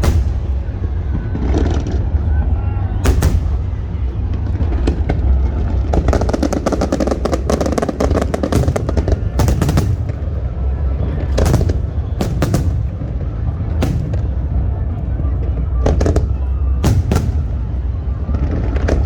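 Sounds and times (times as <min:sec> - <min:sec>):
fireworks crackling and bursting: 0:00.0 - 0:19.0.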